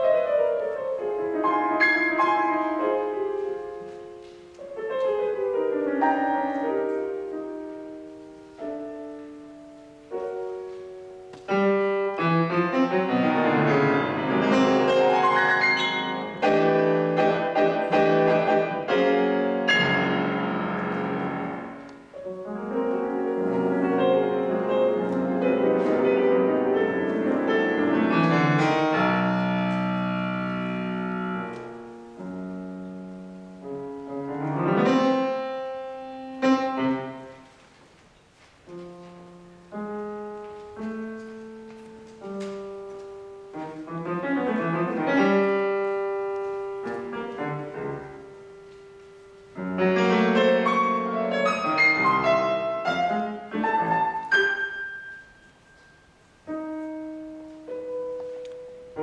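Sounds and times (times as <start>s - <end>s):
grand piano playing: 0.0s - 59.0s.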